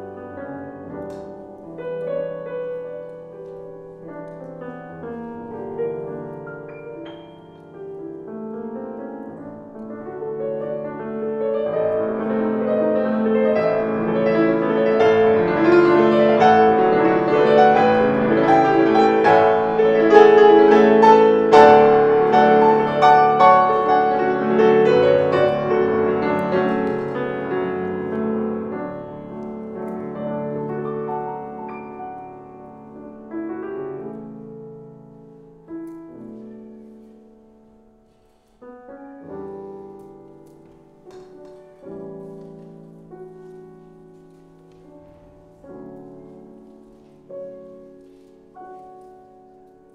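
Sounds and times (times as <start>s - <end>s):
solo grand piano piece: 0.0s - 49.9s.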